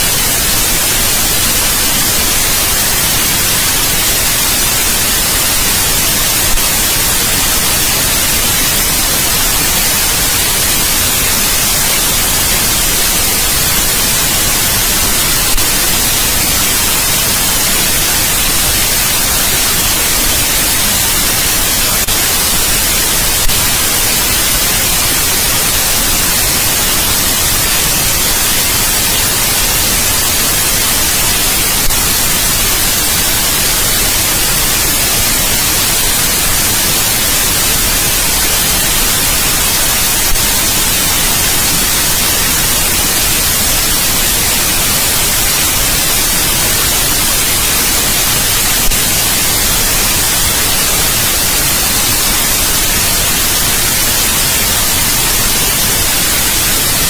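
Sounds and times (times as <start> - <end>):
loud white noise hiss: 0.0 - 57.0.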